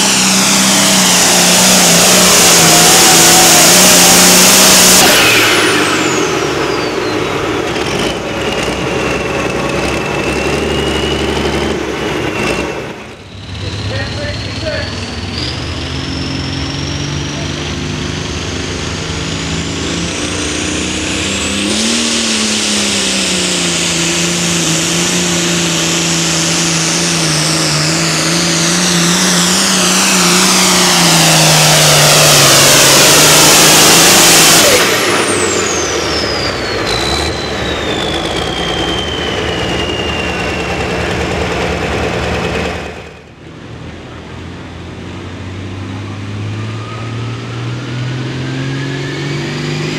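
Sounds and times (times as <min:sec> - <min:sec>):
turbo whine: 0:00.0 - 0:43.4
diesel tractor engine under load: 0:00.0 - 0:49.9.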